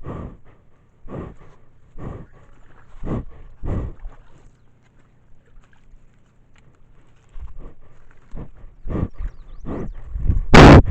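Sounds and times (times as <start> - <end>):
animal breathing and sniffing: 0.0 - 10.4.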